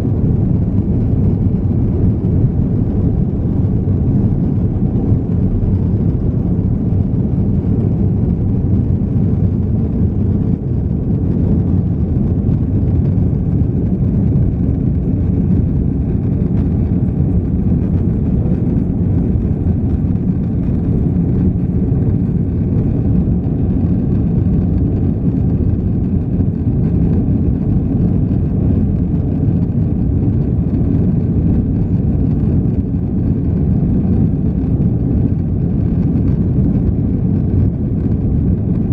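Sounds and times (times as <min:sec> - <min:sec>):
jet engines roaring in cabin: 0:00.0 - 0:38.9.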